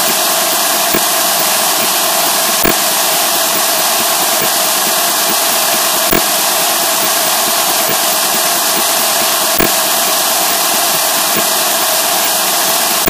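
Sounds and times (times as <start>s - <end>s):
static-like noise: 0.0s - 13.0s.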